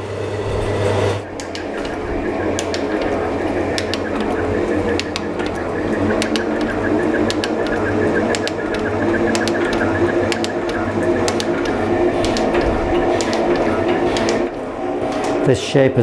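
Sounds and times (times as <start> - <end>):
metal shaper machine humming: 0.0 - 16.0
sharp machine clicks: 1.2 - 14.6.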